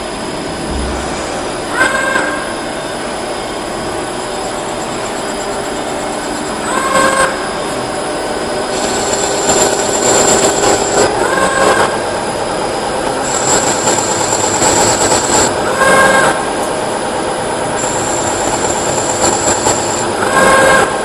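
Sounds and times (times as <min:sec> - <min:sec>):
lathe running with high whine: 0:00.0 - 0:21.0.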